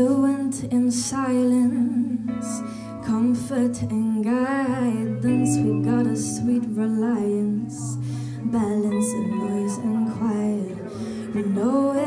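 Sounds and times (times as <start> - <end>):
guitar accompaniment: 0.0 - 12.0
small live band: 0.0 - 12.0
woman singing: 0.0 - 12.0.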